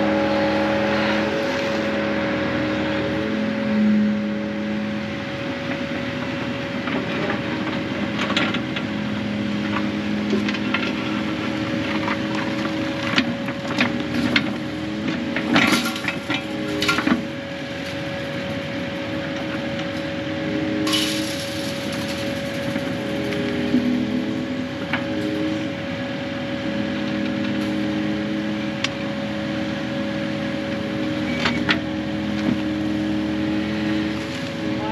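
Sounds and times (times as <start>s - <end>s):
high whine: 0.0s - 32.8s
diesel engine running: 0.0s - 34.9s.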